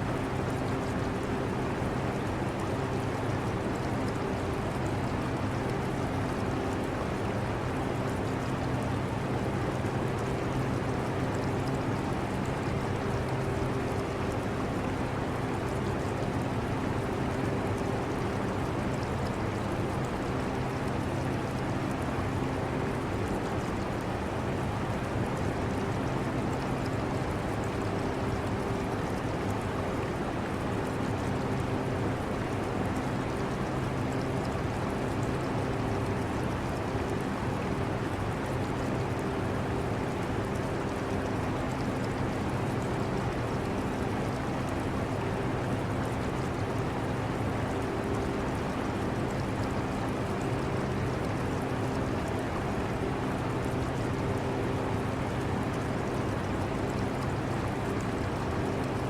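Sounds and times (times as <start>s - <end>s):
aquarium water running: 0.1s - 59.0s.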